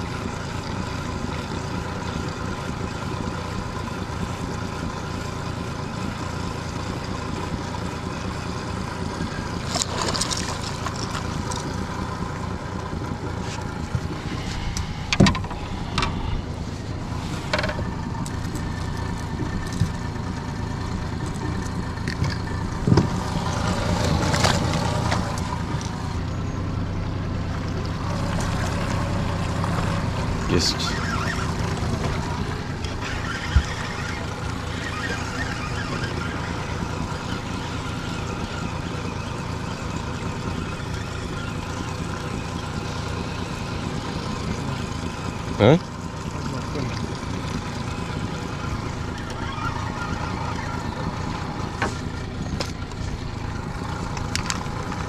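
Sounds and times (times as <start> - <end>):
boat motor humming: 0.0 - 55.0.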